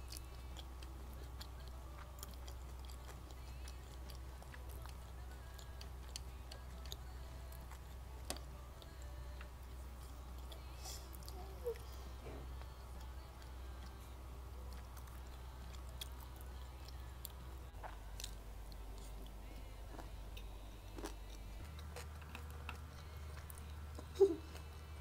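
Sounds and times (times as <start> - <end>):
chewing food: 0.0 - 25.0.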